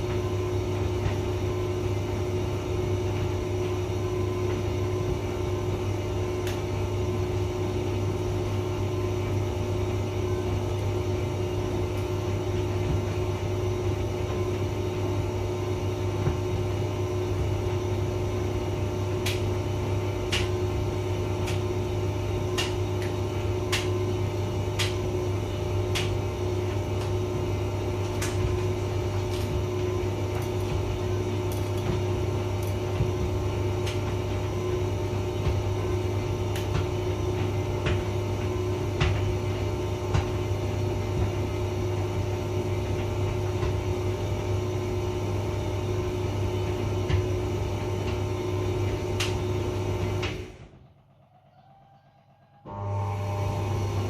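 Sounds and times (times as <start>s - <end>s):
tumble dryer running: 0.0s - 51.4s, 52.5s - 54.0s.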